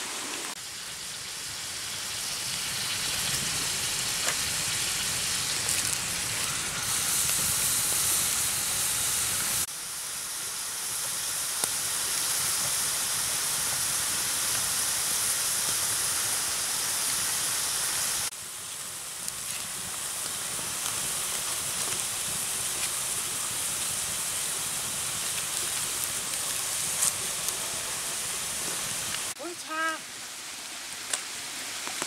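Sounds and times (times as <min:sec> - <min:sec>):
bamboo tubes steaming hiss: 0:00.0 - 0:32.0
fire crackling: 0:00.0 - 0:32.0.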